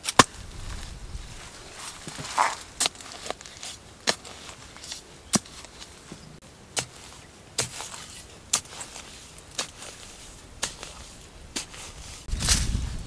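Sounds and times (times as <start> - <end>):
knife stabbing into dry soil: 0.0 - 1.0, 1.8 - 13.0
loose dirt scraping: 0.0 - 13.0.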